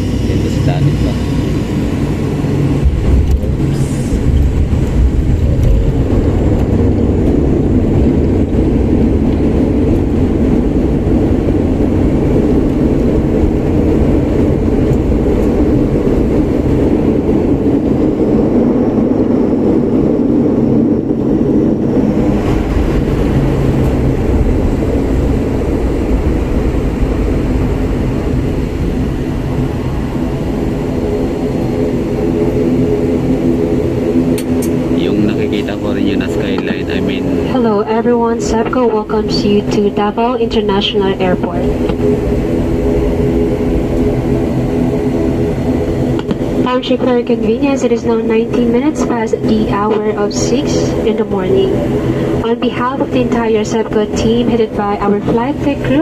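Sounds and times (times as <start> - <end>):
airliner engine and airflow rumble: 0.0 - 56.0.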